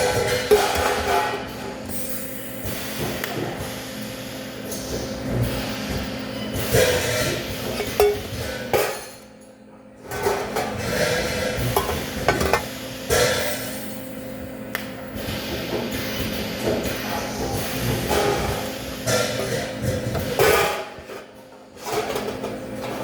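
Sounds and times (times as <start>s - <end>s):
steady hum: 0.4s - 22.8s.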